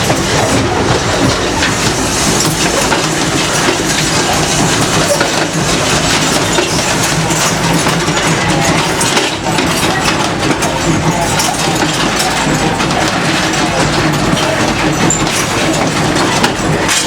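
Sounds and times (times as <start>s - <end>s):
moving passenger train rumble: 0.0s - 17.0s.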